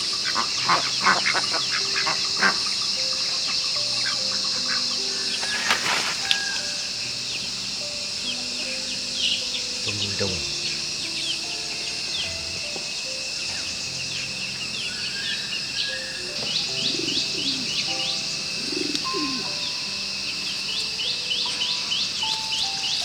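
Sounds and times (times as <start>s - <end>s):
high insect hum: 0.0s - 23.0s
low arching bird calls: 0.0s - 23.0s
small birds chirping: 0.0s - 23.0s.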